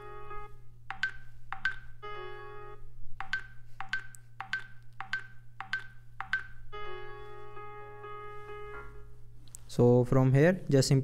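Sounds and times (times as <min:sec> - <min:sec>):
ringtone melodies from phone speaker: 0:00.0 - 0:09.1.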